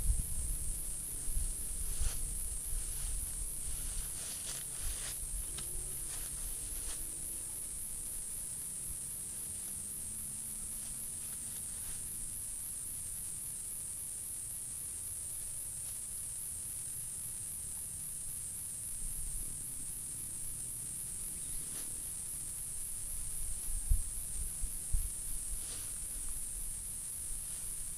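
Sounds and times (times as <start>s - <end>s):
insects chirring: 0.0s - 27.9s.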